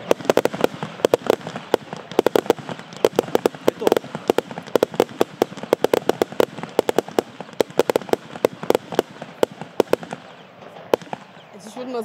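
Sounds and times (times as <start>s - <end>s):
firework bangs volley: 0.0s - 11.5s.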